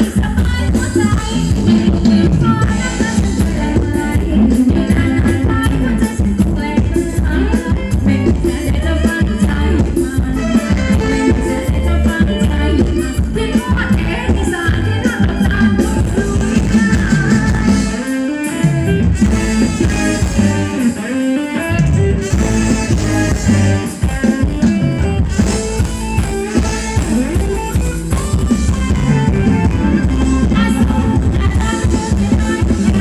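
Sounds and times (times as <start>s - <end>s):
drum kit dance beat: 0.0s - 18.1s, 19.0s - 21.0s, 22.2s - 33.0s
electric guitar: 0.0s - 33.0s
live band dance music: 0.0s - 33.0s.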